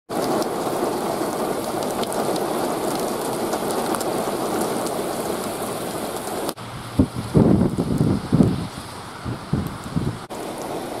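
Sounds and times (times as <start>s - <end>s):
heavy rain on pavement: 0.1s - 11.0s.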